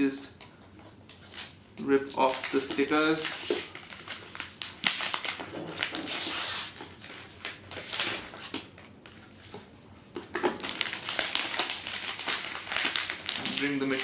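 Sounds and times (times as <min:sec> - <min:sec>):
plastic packaging crinkling: 0:01.2 - 0:09.3, 0:10.3 - 0:14.0.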